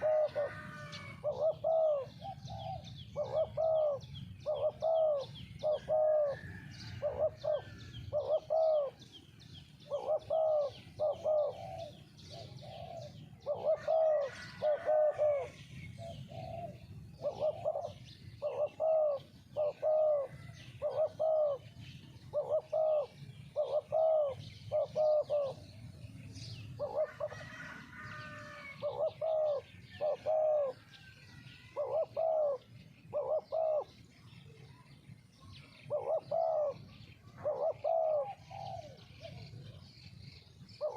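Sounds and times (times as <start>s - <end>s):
doves cooing: 0.0s - 40.9s
small birds chirping: 0.0s - 40.9s.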